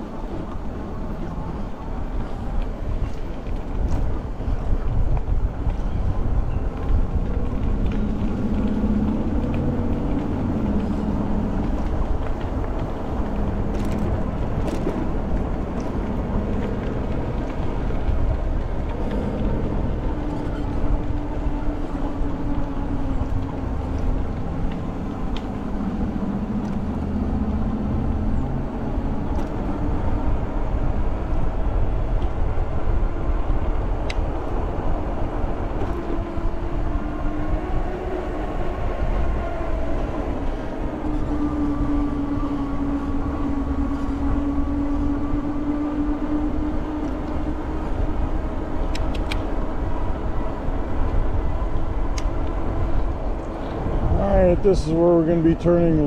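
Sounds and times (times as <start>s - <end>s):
faint e-bike motor hum: 0.0s - 56.0s
wind rumble on microphone: 0.0s - 56.0s.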